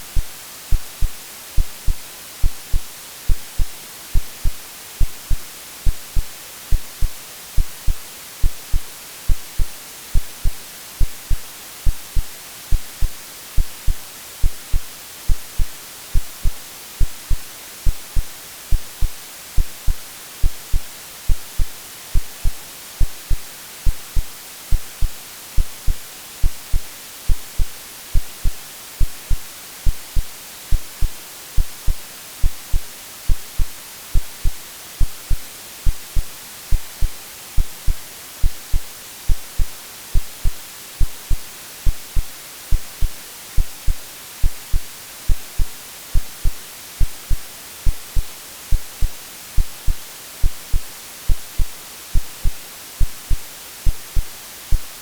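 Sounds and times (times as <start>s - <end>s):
white noise hiss: 0.0s - 55.0s
synthetic heartbeat thumps: 0.2s - 54.9s.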